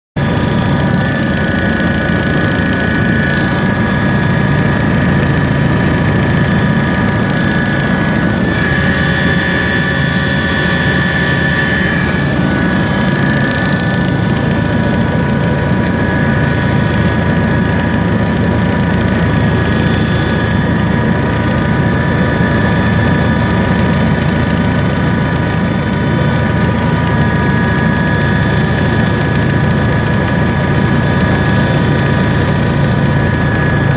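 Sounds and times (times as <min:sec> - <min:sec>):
large engine droning: 0:00.2 - 0:33.9.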